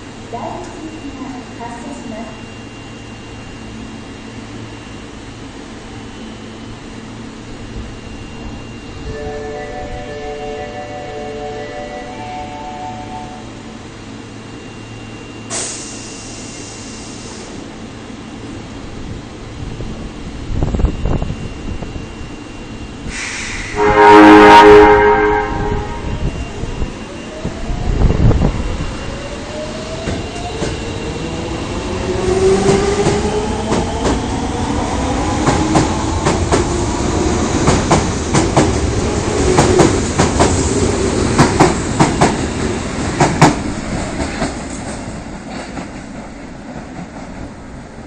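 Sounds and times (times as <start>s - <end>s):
train traction motors whining: 0.0s - 45.3s.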